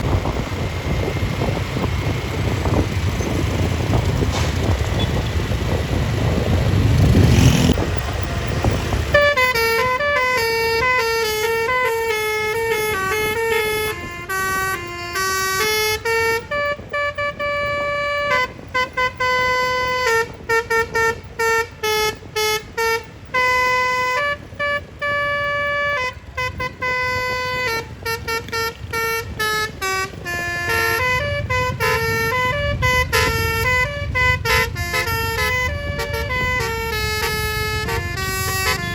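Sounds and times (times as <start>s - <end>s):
low rumble of passing bus: 0.0s - 38.9s
multi-tone bus horn tune: 0.0s - 38.9s.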